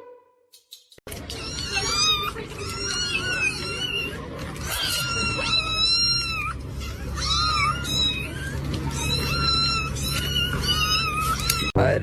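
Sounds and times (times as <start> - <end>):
cat meowing: 1.2 - 11.8.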